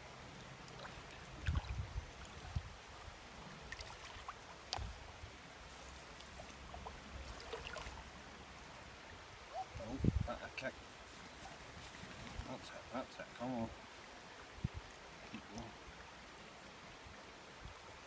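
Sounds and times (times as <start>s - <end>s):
river water trickling: 0.0s - 18.0s
water splashes and drips: 0.0s - 18.0s.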